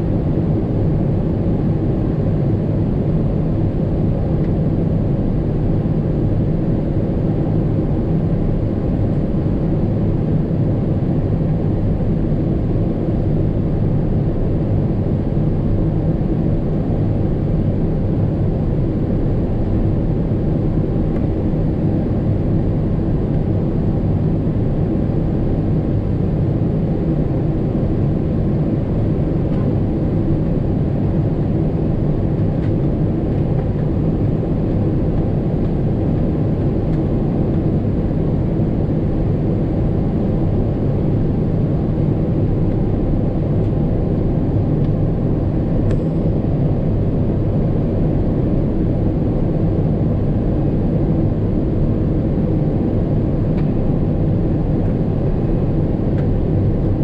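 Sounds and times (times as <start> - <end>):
airliner cabin roar: 0.0 - 57.0.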